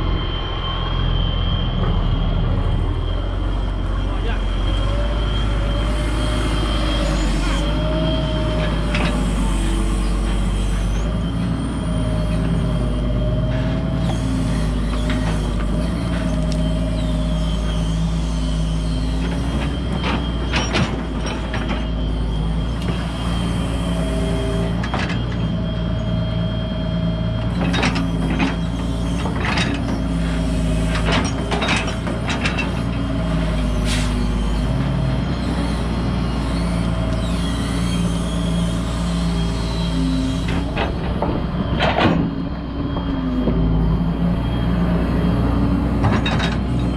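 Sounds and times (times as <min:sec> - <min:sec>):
excavator diesel engine running: 0:00.0 - 0:46.9
hydraulic whine: 0:00.0 - 0:46.9.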